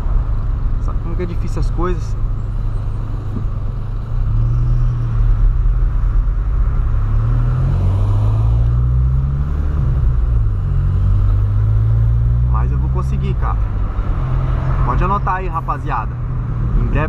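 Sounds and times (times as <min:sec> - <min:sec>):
car engine: 0:00.0 - 0:17.0
road noise: 0:00.0 - 0:17.0.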